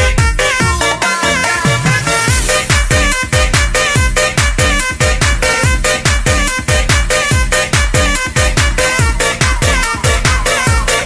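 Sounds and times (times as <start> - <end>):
electronic breakbeat dance music: 0.0 - 11.0.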